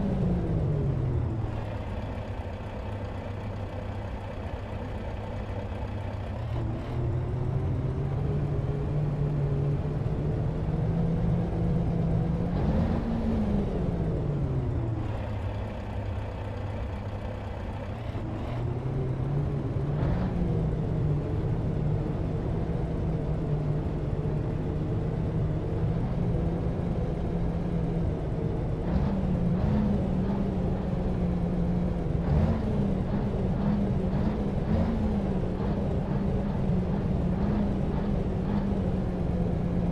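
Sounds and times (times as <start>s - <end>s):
diesel engine revving: 6.3s - 16.3s, 16.9s - 39.9s.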